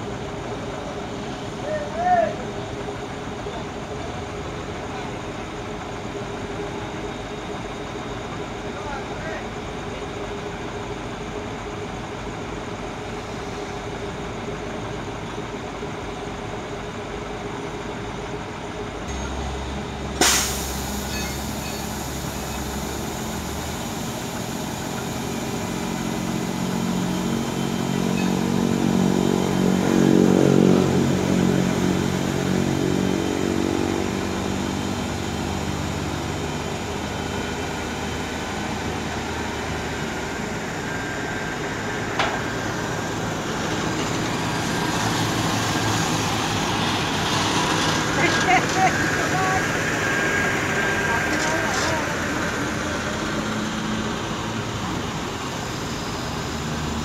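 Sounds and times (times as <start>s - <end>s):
crane diesel engine running: 0.0s - 57.0s.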